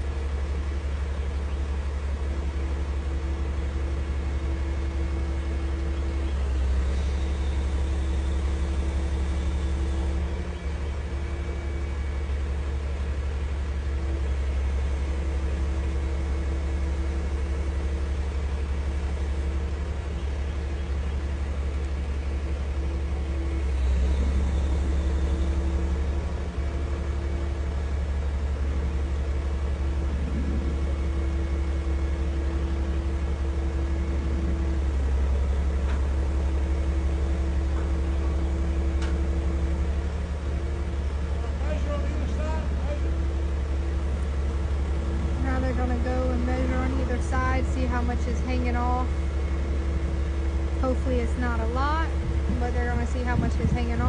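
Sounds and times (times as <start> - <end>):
heavy machine engine humming: 0.0 - 54.0.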